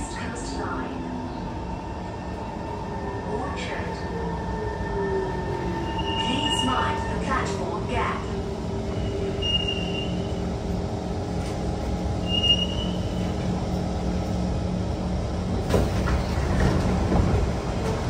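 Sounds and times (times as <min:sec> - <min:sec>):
train rumble and hum in tunnel: 0:00.0 - 0:18.0.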